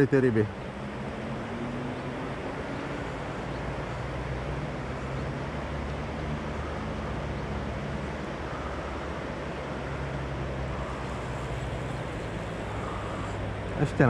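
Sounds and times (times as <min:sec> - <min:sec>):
fast river rushing: 0:00.0 - 0:14.0.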